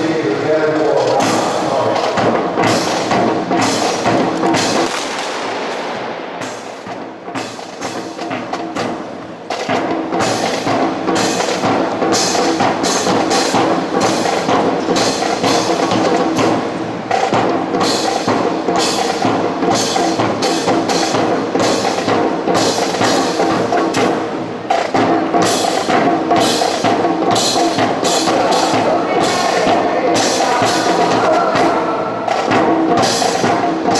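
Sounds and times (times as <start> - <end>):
music with clacking percussive beat: 0.0 - 33.9.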